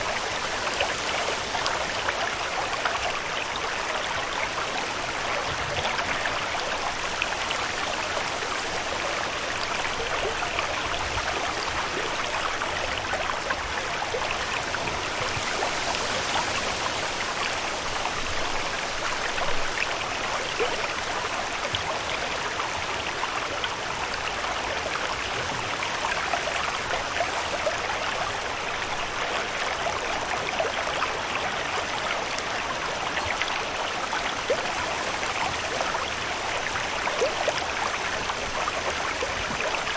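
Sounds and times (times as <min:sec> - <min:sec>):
running water rushing: 0:00.0 - 0:39.9
water splashes and drips: 0:00.0 - 0:39.9.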